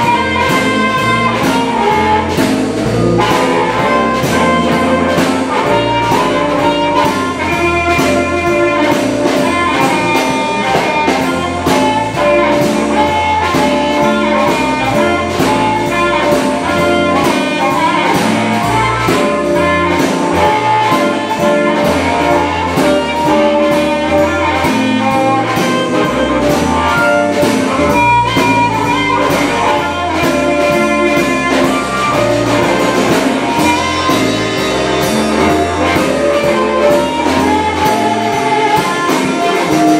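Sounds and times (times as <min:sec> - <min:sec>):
amplified harmonica: 0:00.0 - 0:39.9
drum kit steady beat: 0:00.0 - 0:39.9
electric bass: 0:00.0 - 0:39.9
electric guitar: 0:00.0 - 0:39.9.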